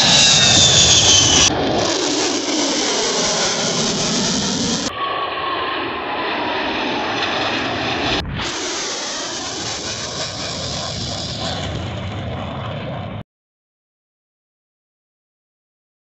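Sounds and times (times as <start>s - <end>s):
jet engine roar: 0.0s - 13.2s.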